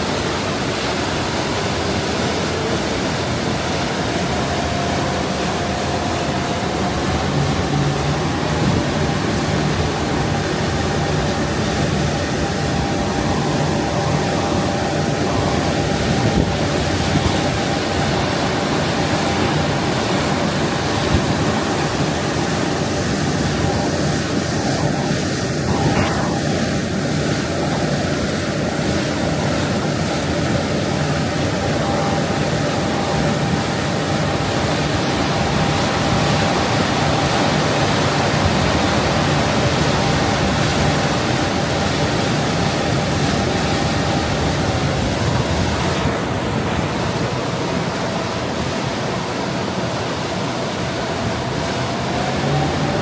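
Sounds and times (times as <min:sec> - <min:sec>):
boat engine drone and whine: 0:00.0 - 0:53.0
rush of water and air: 0:00.0 - 0:53.0.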